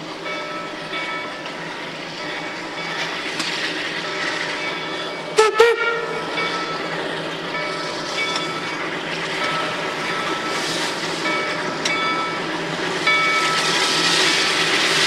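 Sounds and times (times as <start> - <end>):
train coaches rolling on rails: 0.0 - 15.0.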